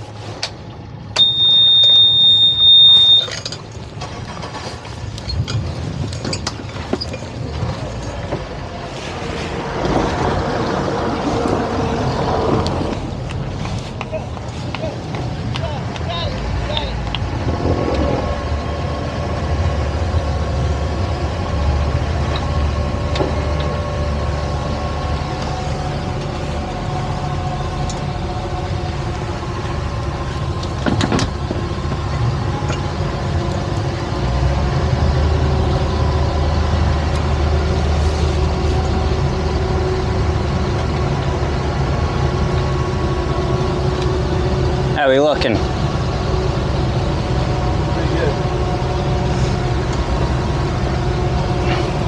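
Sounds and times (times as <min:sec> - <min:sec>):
outboard motors droning: 0:00.0 - 0:52.0.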